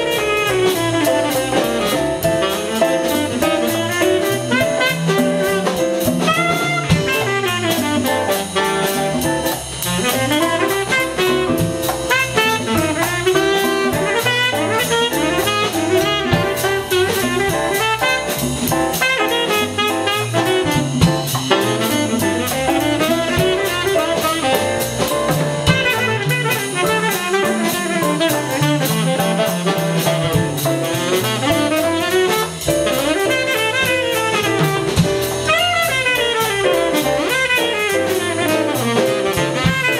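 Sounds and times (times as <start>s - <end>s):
drum kit: 0.0s - 39.9s
piano: 0.0s - 39.9s
tenor saxophone runs: 0.0s - 39.9s
walking electric bass: 0.0s - 39.9s.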